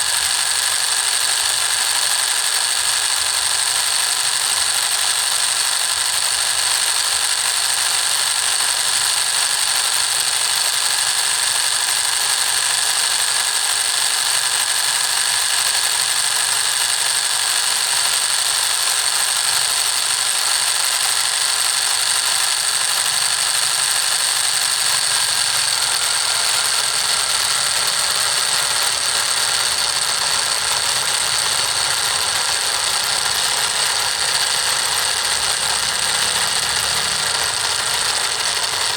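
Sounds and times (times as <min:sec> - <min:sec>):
small motor with high-pitched whine: 0:00.0 - 0:38.9.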